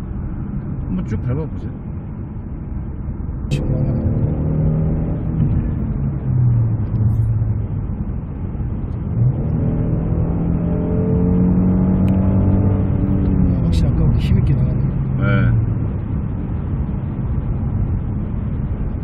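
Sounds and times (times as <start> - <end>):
car engine accelerating hard: 3.4 - 19.0.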